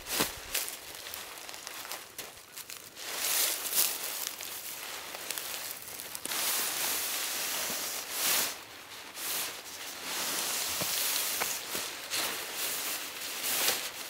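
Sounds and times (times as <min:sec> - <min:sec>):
tent fabric rustling: 0:00.0 - 0:14.0.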